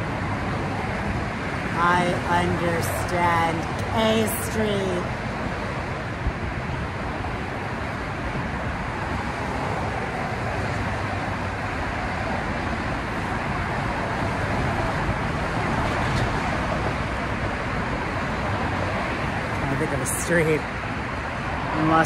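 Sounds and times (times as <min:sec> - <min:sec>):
busy road traffic: 0:00.0 - 0:22.0.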